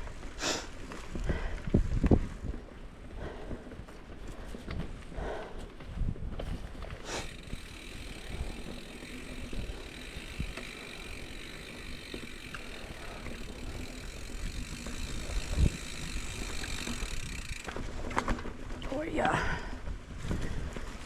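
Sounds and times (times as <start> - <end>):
mountain bike tyre and drivetrain noise: 0.0 - 21.0.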